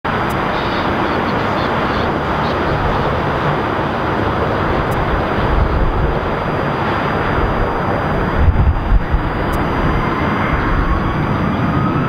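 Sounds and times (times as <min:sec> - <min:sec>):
jet airliner engines rumbling: 0:00.1 - 0:12.0.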